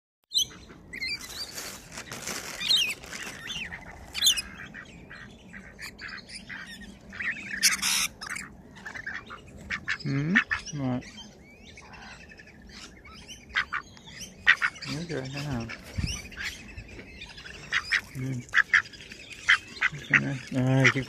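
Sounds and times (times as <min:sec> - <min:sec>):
swans chirping and calling: 0:00.3 - 0:21.0.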